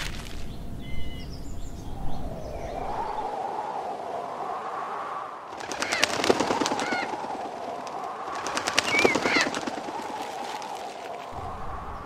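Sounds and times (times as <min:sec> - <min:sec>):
outdoor ambience: 0:00.0 - 0:12.0.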